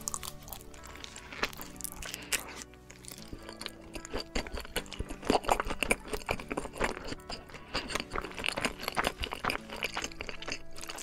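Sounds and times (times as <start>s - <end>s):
background music: 0.0s - 11.0s
wet chewing and lip smacking: 0.0s - 11.0s.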